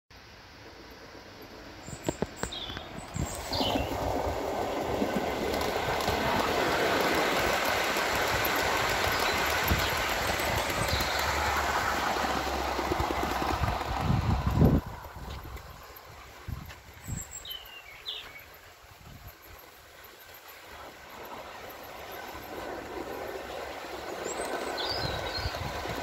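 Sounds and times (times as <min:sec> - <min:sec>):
model train wheels rattling on rails: 0:00.6 - 0:26.0.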